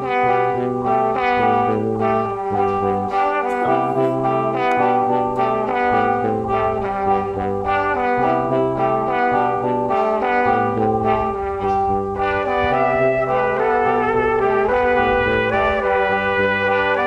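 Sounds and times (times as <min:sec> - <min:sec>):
brass melody over bass line: 0:00.0 - 0:17.0.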